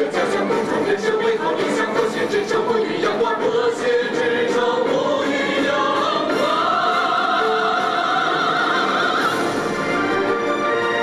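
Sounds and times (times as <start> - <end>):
choir: 0.0 - 11.0
orchestral backing: 0.0 - 11.0.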